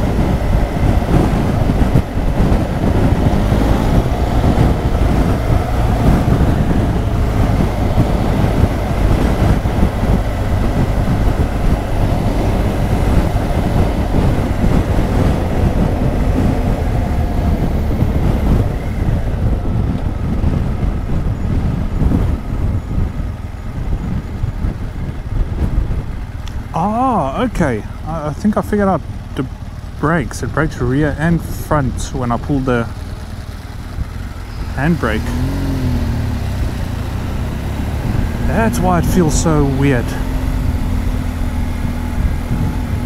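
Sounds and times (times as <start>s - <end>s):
motorcycle engine: 0.0s - 43.0s
road rumble: 0.0s - 43.0s
wind rush: 0.0s - 43.0s.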